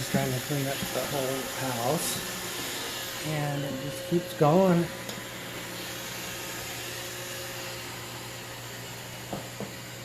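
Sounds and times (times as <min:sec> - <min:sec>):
robot vacuum whirring: 0:00.0 - 0:10.0.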